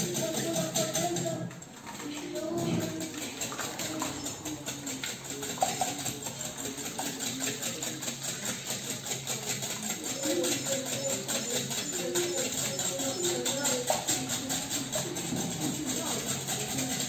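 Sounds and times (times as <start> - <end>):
whisk beating batter in bowl: 0.0 - 17.0.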